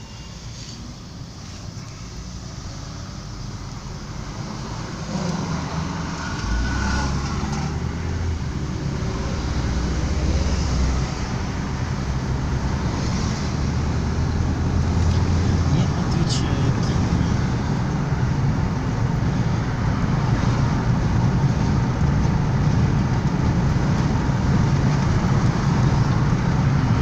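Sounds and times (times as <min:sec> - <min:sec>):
moving car road and engine noise: 0:00.0 - 0:27.0.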